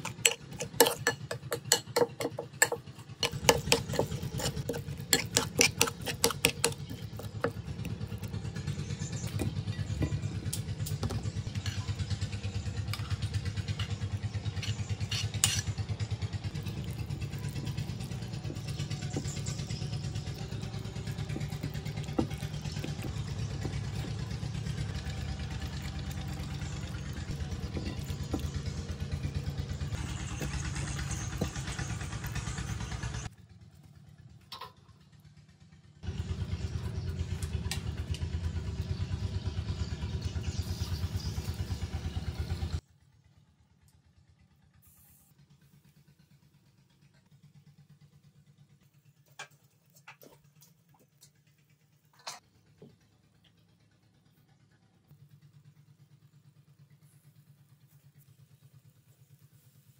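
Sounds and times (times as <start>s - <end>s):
low engine-like drone: 0.0s - 59.9s.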